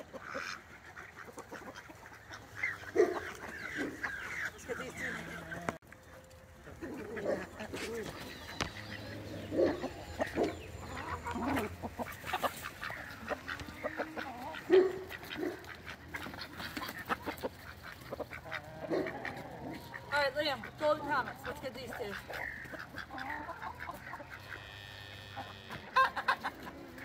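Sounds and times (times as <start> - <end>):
ducks quacking and honking: 0.0 - 27.0
poultry calling: 0.0 - 27.0.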